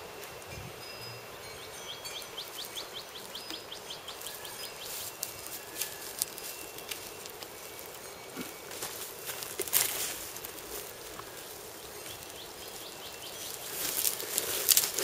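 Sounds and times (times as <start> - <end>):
insect hum: 0.0 - 15.0
rustles in dry grass: 0.0 - 15.0.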